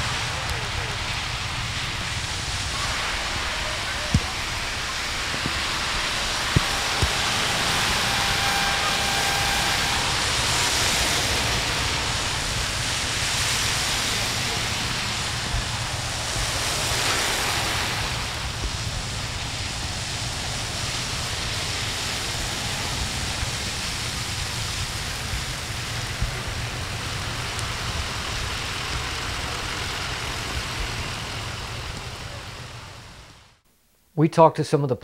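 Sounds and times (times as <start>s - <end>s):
tyres hissing on wet road: 0.0s - 33.6s.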